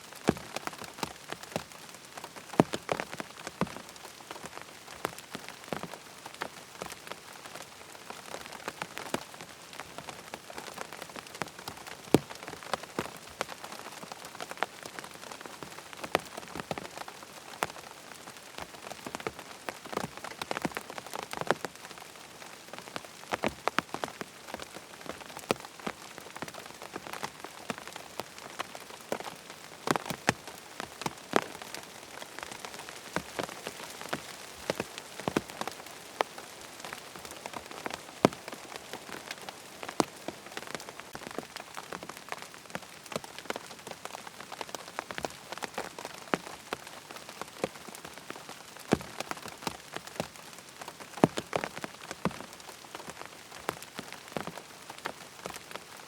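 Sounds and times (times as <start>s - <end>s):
rain hissing on a tent: 0.0s - 56.0s
raindrops tapping fabric: 0.0s - 56.0s.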